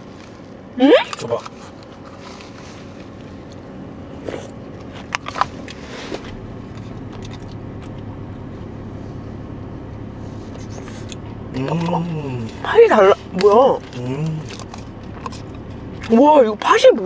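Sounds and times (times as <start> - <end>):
low hum inside a car: 0.0 - 17.0.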